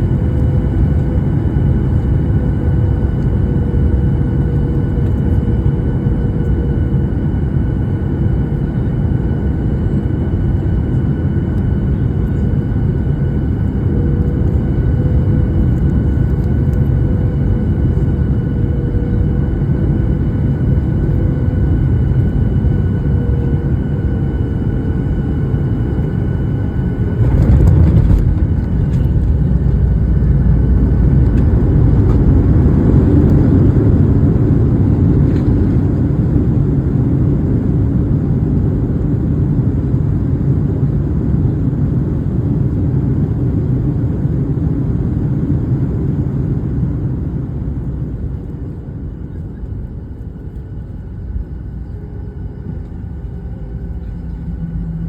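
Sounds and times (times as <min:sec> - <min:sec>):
jet cabin engine rumble: 0:00.0 - 0:55.0.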